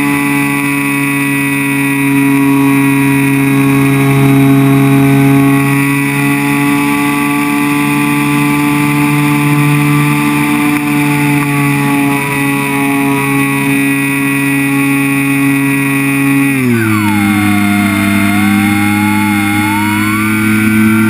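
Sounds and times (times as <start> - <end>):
model plane propeller droning: 0.0 - 21.0.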